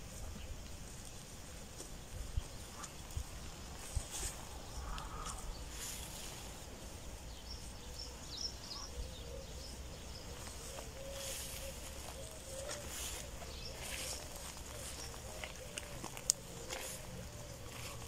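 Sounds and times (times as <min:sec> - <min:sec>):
rustling through vegetation: 0:00.0 - 0:18.0
small birds chirping: 0:00.0 - 0:18.0.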